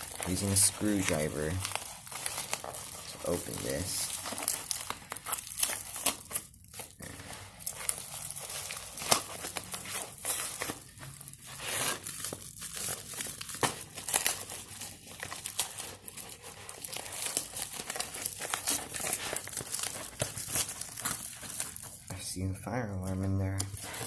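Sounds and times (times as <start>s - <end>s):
package being torn open: 0.0s - 22.1s
packing material rustling: 0.0s - 24.0s.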